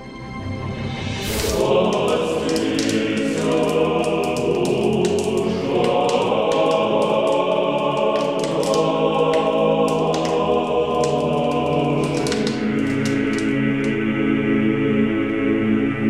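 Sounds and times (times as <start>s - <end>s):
choir singing held chords: 0.8s - 16.0s.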